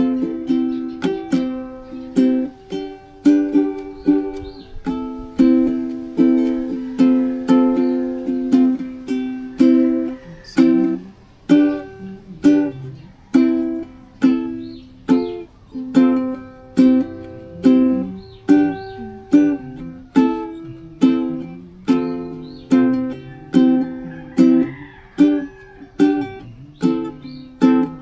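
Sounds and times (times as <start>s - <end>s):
ukulele strumming: 0.0s - 28.0s.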